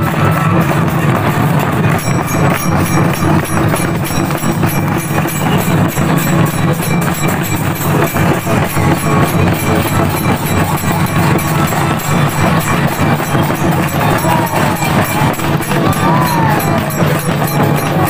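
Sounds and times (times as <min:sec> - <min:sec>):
drums: 0:00.0 - 0:18.0
hand cymbals clashing: 0:00.1 - 0:18.0.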